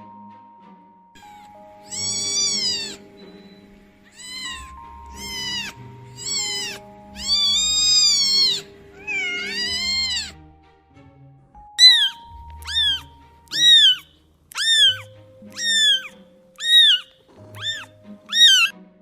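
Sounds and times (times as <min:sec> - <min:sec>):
soft background music: 0:00.0 - 0:19.0
cat meowing: 0:01.2 - 0:10.4, 0:11.8 - 0:18.7.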